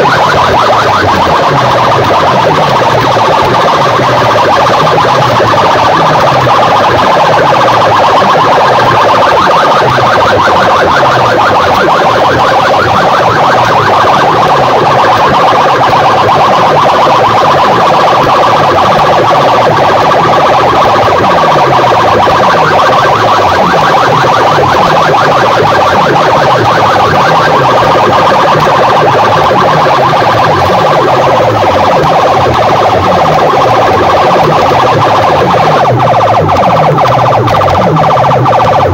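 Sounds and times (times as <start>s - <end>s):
distorted siren-like effect on speakers: 0.0s - 38.9s.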